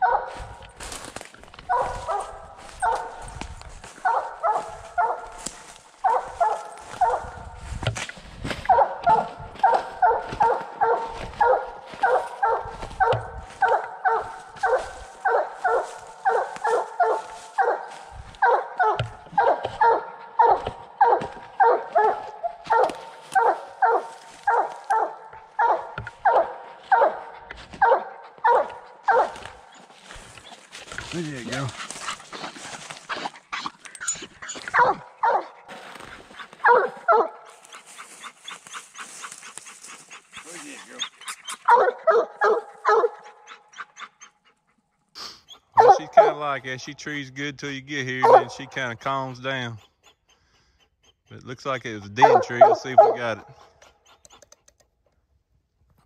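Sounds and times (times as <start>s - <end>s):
hound barking: 0.0s - 54.6s.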